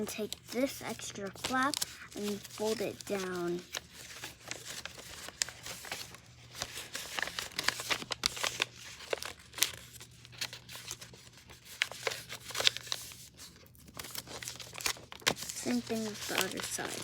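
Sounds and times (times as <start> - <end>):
paper being folded and creased: 0.0 - 17.0.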